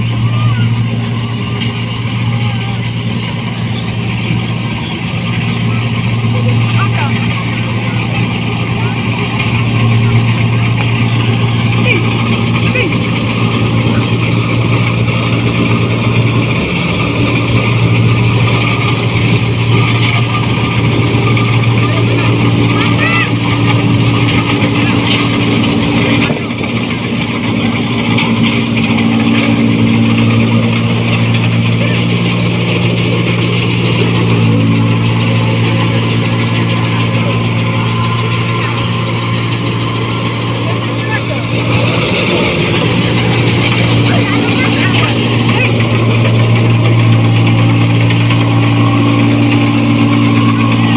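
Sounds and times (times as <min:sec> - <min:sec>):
diesel engine running with loud exhaust: 0:00.0 - 0:50.9.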